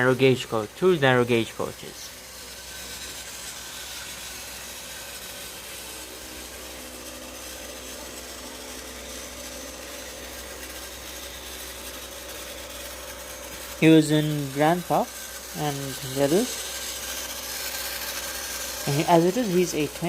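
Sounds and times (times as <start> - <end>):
toy train motor whirring: 0.0 - 20.0.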